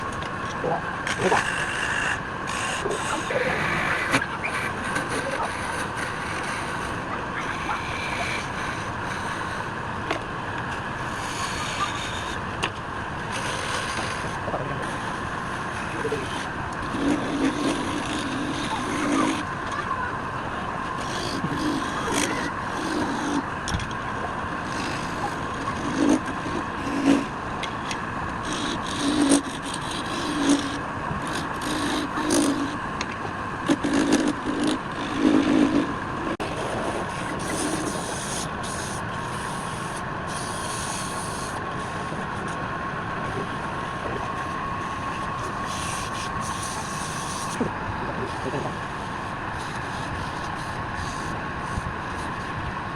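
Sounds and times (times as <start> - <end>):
lathe motor hum: 0.0 - 52.7
tool scraping spinning wood: 1.0 - 42.6, 43.2 - 52.5.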